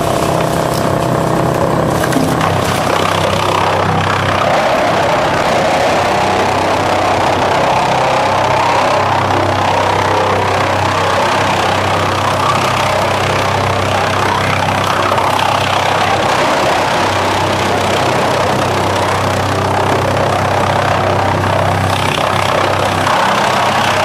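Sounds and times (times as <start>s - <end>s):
wood chipper chipping wood: 0.0s - 24.0s.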